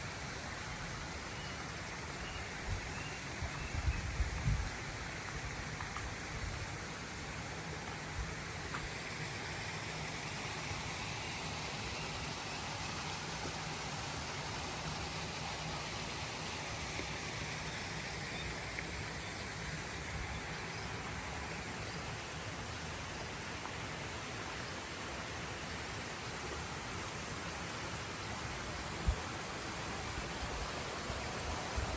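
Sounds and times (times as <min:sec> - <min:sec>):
rushing water: 0:00.0 - 0:31.9.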